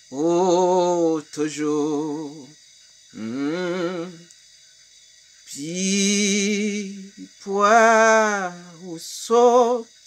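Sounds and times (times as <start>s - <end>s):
man singing unaccompanied: 0.0s - 4.4s, 5.4s - 10.0s.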